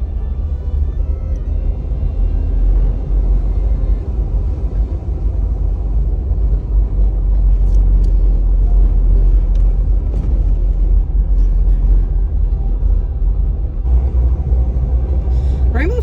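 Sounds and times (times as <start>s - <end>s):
car tyre and engine rumble: 0.0s - 16.0s.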